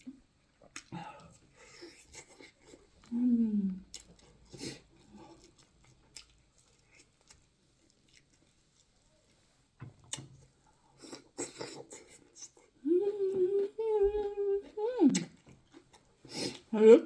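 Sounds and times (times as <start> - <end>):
person chewing food: 0.0 - 3.1, 3.8 - 16.7.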